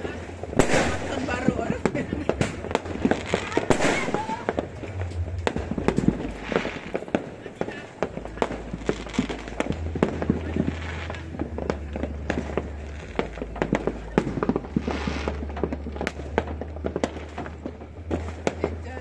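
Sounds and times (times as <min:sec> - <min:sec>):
fireworks bangs and pops: 0:00.0 - 0:19.0.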